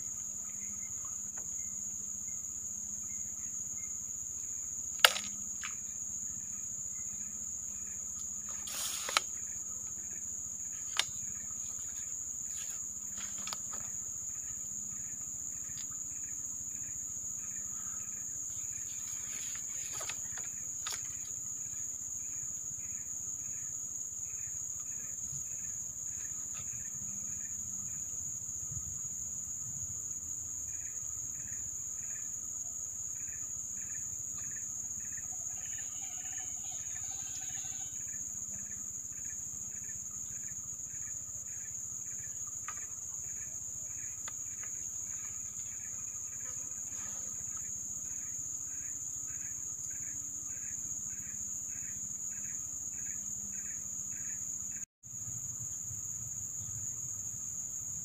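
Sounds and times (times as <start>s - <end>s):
insect chirping: 0.0s - 58.0s
insects droning: 0.0s - 58.0s.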